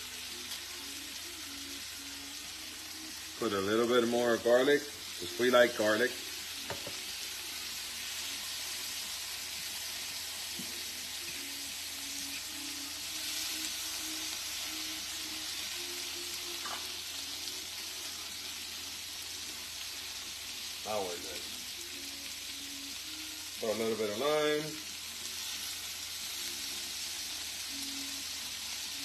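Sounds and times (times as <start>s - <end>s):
garlic sizzling in a pan: 0.0s - 29.0s.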